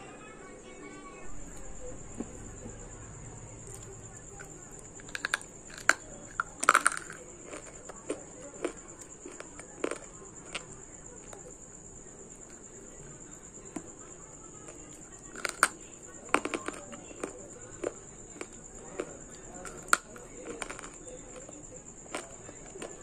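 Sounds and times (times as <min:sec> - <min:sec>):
crunchy chewing: 0:01.2 - 0:23.0.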